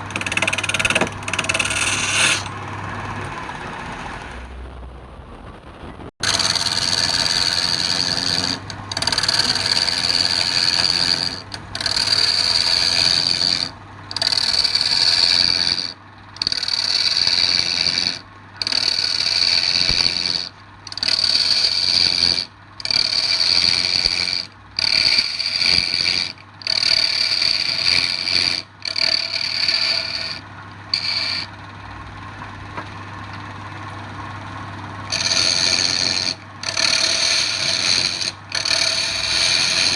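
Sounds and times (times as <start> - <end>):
turning tool cutting wood: 0.0 - 4.5, 6.2 - 32.0, 34.7 - 39.9
lathe motor hum: 0.0 - 4.7, 6.2 - 39.9.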